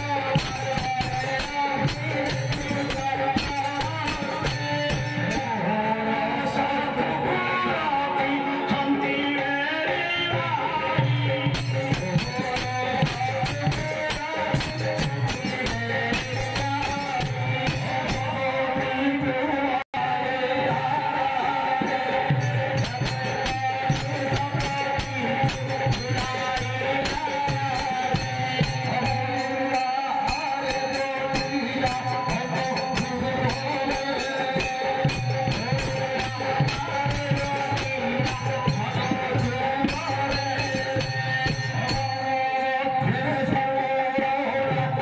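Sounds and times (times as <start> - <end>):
fast percussion with jingles: 0.0 - 5.9, 10.3 - 19.2, 21.8 - 44.3.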